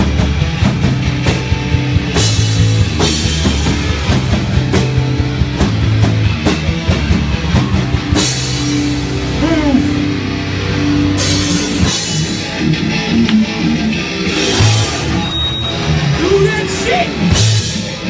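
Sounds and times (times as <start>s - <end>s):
punk band playing live: 0.0s - 18.0s.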